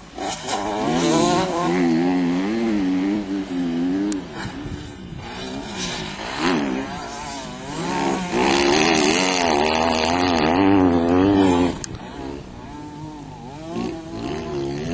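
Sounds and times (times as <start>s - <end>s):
motocross bike engine revving: 0.0s - 14.9s.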